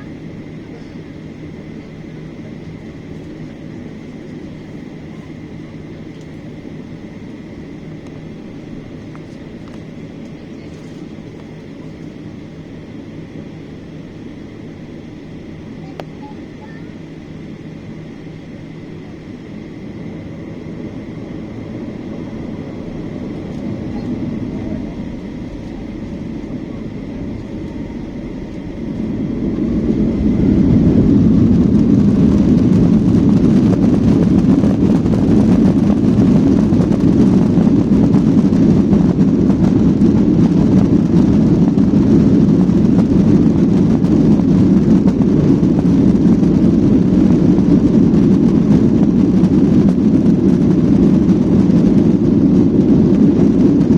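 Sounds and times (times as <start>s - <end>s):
jet engines spooling up: 0.0s - 53.9s.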